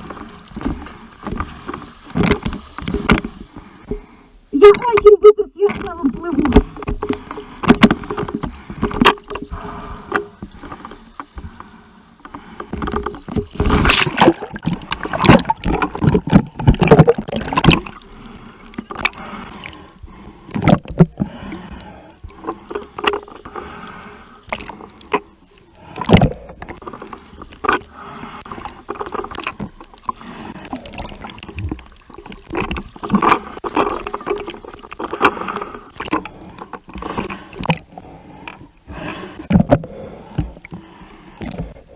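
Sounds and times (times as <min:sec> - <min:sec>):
water splashing from swimming: 0:05.7 - 0:41.8.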